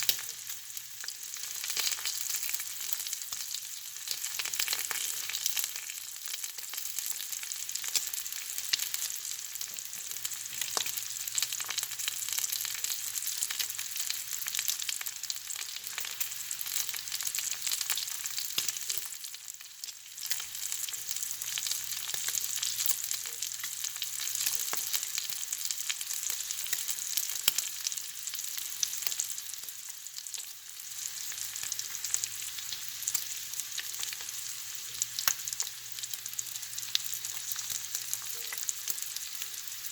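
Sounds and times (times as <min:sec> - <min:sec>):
bacon sizzling with pops: 0:00.0 - 0:39.9.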